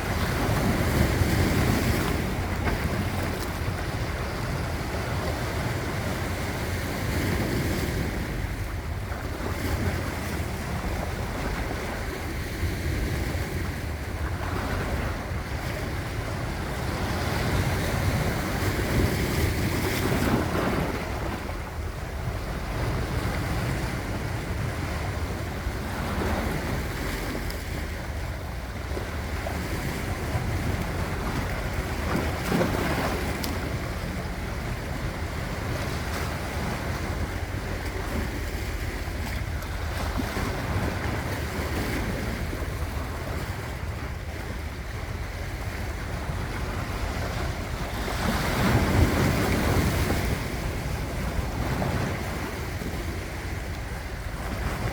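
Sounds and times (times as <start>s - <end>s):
sea waves washing ashore: 0.0s - 54.9s
wind buffeting microphone: 0.0s - 54.9s.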